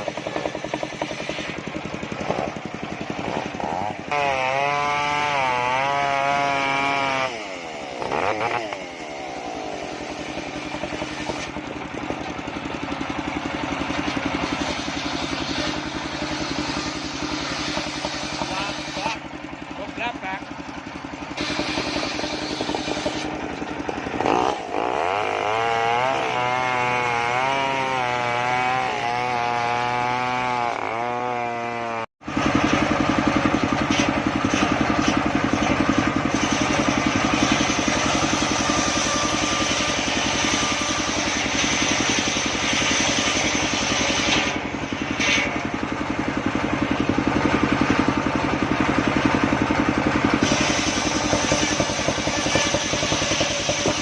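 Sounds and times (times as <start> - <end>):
circular saw cutting log: 0.0 - 54.0.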